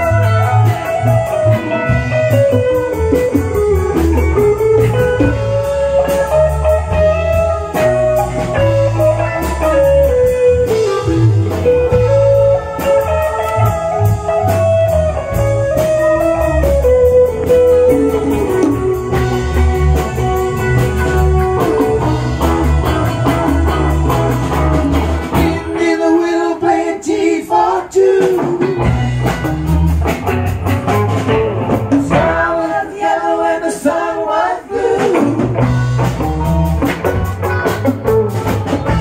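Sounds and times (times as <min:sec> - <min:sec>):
lead guitar: 0:00.0 - 0:27.1, 0:27.8 - 0:32.8, 0:34.8 - 0:39.0
bass guitar: 0:00.0 - 0:39.0
drums: 0:00.0 - 0:39.0.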